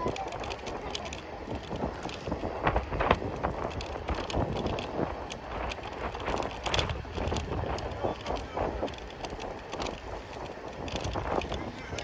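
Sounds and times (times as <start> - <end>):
clicks and knocks over bumps: 0.0 - 12.0
scooter wheels rumbling: 0.0 - 12.0
wind on microphone: 0.0 - 12.0.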